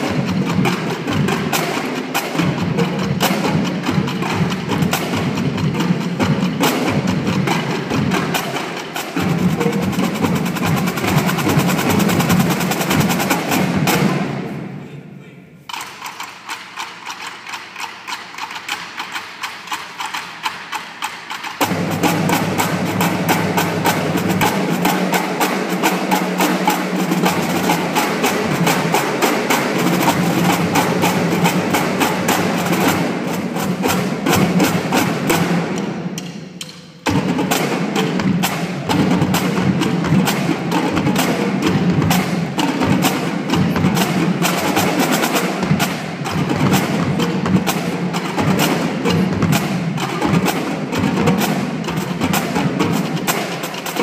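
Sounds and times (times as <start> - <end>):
marching drumline: 0.0 - 54.0.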